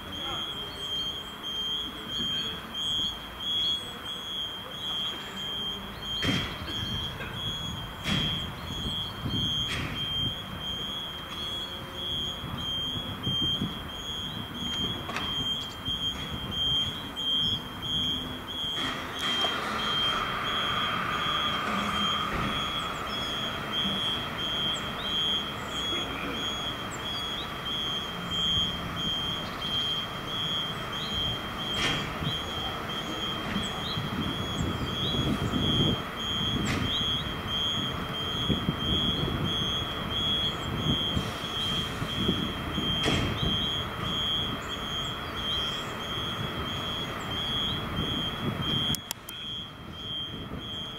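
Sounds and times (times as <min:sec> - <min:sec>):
high electronic alarm beep: 0:00.0 - 0:50.9.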